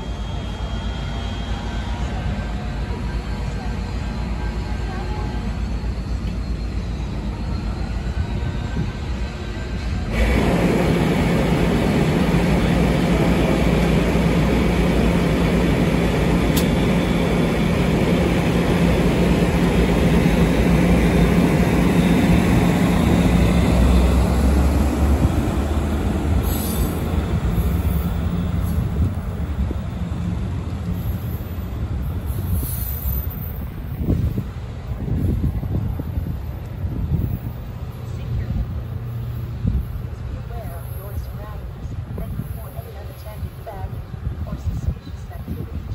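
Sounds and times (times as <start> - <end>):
train coaches rolling on rails: 0.0 - 45.9.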